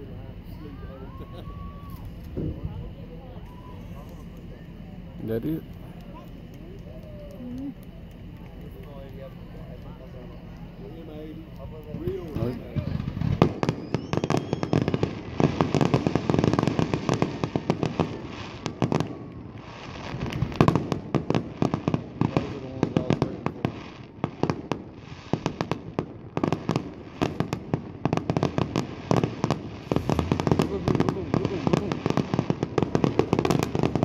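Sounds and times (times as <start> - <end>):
firework shells bursting: 1.9 - 34.0.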